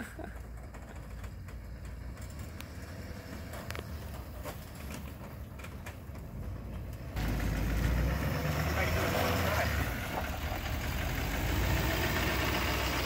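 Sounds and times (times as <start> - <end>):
diesel pickup engine rumbling: 0.0 - 13.0.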